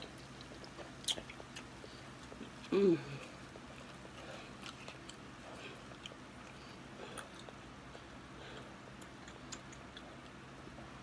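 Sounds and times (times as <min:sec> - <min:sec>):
faint steady hum: 0:00.0 - 0:11.0
person chewing: 0:00.0 - 0:11.0.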